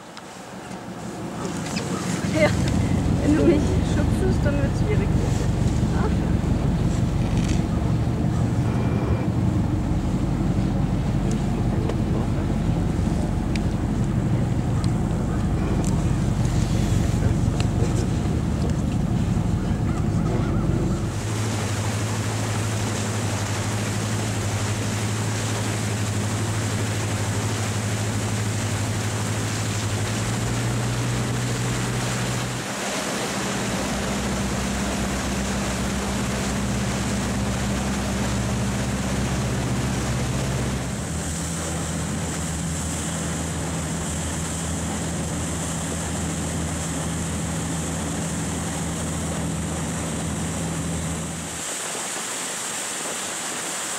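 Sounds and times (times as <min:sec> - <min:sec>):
boat engine humming: 0:00.0 - 0:53.9
wind and water rushing: 0:00.0 - 0:53.9.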